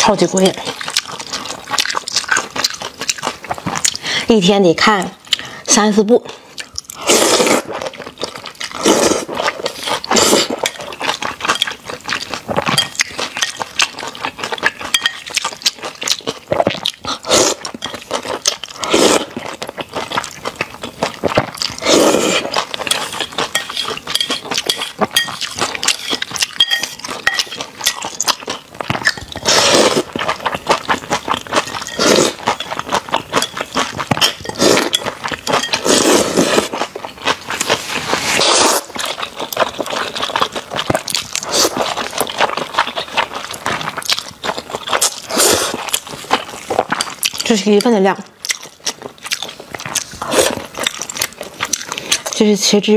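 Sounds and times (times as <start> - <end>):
wet chewing and mouth smacks: 0.0 - 4.2, 4.9 - 5.7, 6.4 - 52.5
noodle slurping: 7.0 - 47.4, 49.6 - 52.4.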